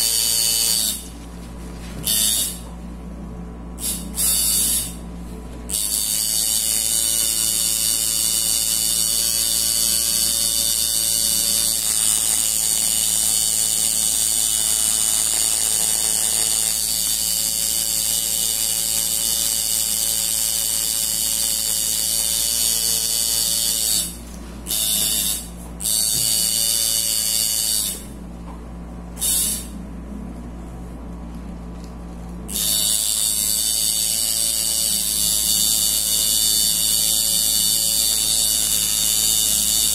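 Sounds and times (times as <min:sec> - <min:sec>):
tattoo machine buzzing: 0:00.0 - 0:01.2, 0:02.0 - 0:02.7, 0:03.8 - 0:05.1, 0:05.7 - 0:28.2, 0:29.2 - 0:29.8, 0:32.5 - 0:39.9.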